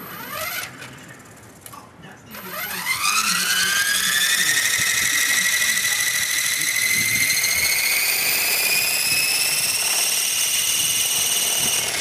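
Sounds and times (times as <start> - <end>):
rc helicopter motor whining: 0.0 - 1.3, 2.3 - 12.0.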